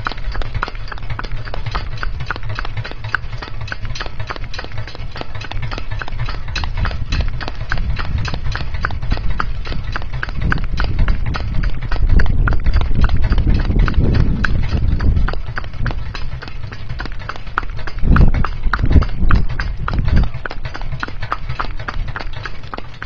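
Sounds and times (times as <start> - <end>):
low rumble: 0.0 - 22.3
pony hooves clip-clopping on road: 0.0 - 23.0.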